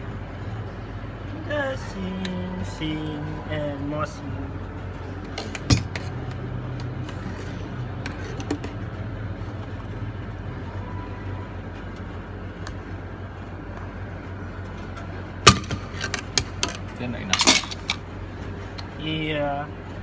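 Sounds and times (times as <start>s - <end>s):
coffee shop equipment humming: 0.0s - 20.0s.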